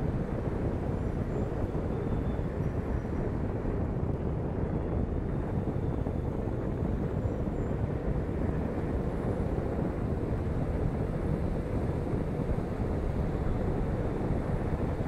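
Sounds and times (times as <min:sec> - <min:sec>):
wind and tyre noise: 0:00.0 - 0:15.0.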